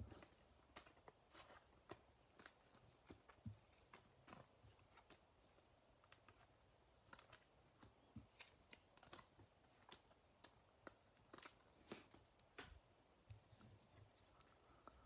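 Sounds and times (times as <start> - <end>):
cards clicking and rustling: 0.0 - 12.8.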